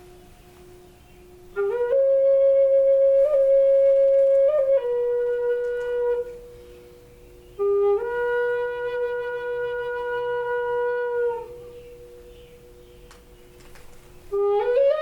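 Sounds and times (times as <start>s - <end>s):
flute playing long held notes: 0.0s - 13.0s, 14.3s - 15.0s.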